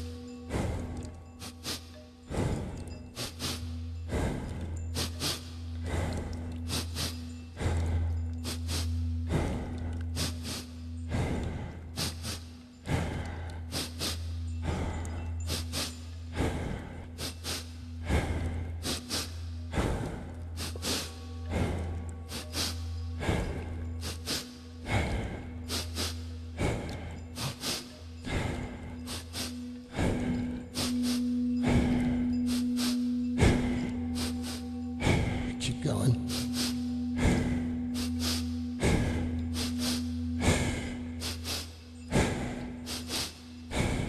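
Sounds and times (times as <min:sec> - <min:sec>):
breathy rushes of air: 0:00.0 - 0:35.6, 0:36.2 - 0:44.0
meditation music drone: 0:00.0 - 0:44.0
singing bowl tone: 0:00.0 - 0:44.0.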